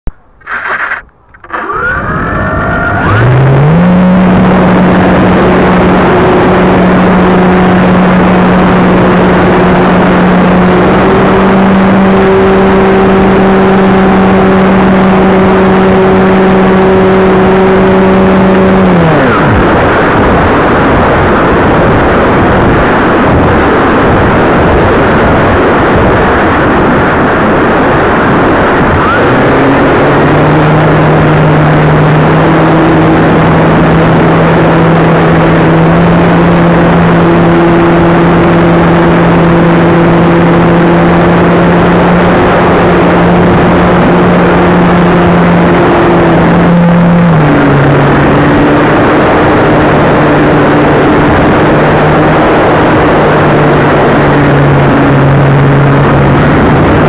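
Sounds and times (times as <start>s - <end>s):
electric motor whine: 0.4s - 20.2s, 28.6s - 57.0s.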